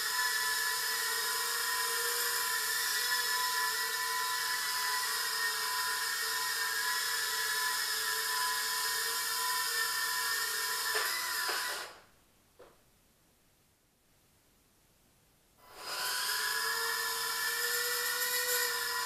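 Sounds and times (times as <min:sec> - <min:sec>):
quadcopter motors whining: 0:00.0 - 0:12.0, 0:15.7 - 0:19.0.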